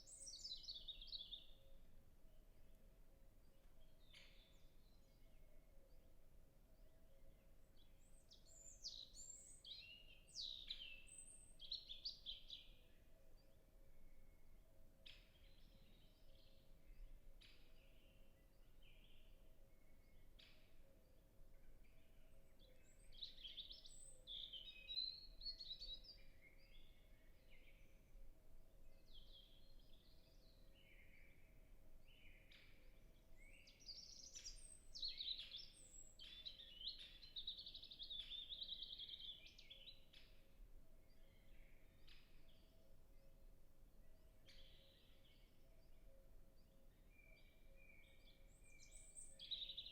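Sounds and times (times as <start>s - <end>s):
distant robin singing: 0.0s - 49.9s.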